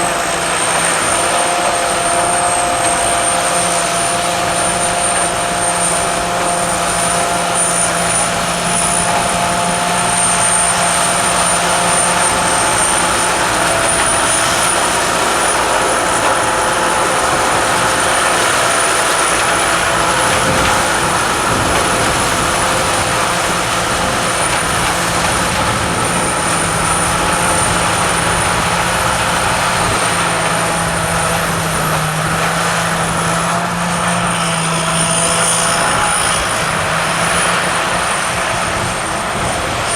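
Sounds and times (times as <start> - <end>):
combine harvester drone: 0.0 - 39.9
high machine whine: 0.0 - 39.9.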